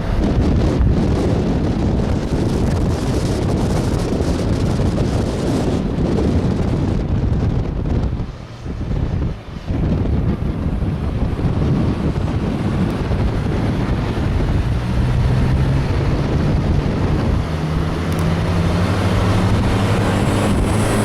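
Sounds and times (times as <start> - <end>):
engine hum rising in pitch: 0.0 - 21.0
road noise: 0.0 - 21.0
wind on microphone: 0.0 - 21.0.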